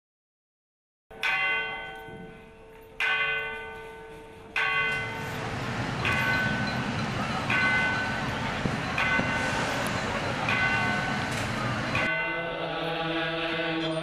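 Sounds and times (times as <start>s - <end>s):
bell ringing: 1.1s - 13.1s.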